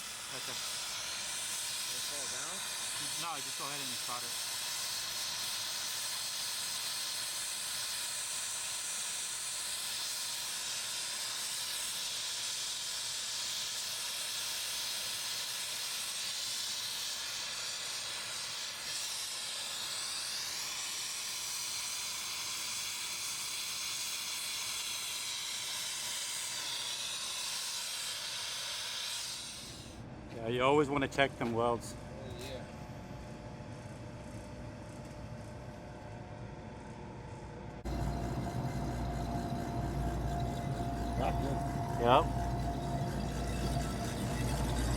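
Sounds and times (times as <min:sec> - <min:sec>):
torch flame hissing: 0:00.0 - 0:30.0, 0:37.8 - 0:44.9.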